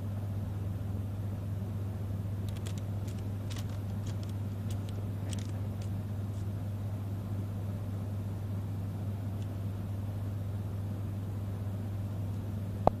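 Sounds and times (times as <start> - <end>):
low motor hum with hiss: 0.0 - 13.0.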